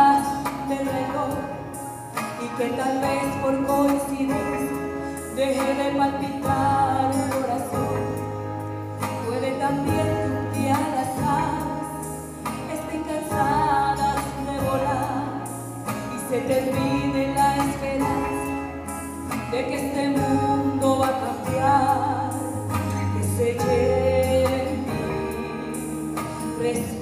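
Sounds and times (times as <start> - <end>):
woman singing into microphone: 0.0 - 27.0.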